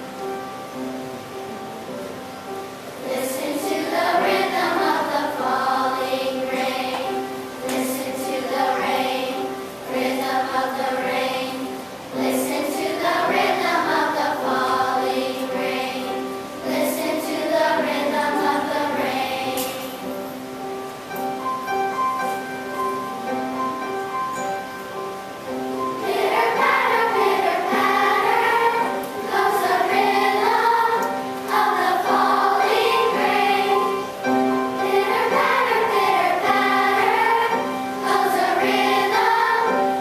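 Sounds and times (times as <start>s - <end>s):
children's choir singing: 0.0s - 21.2s, 25.4s - 40.0s
instrumental accompaniment: 0.0s - 40.0s.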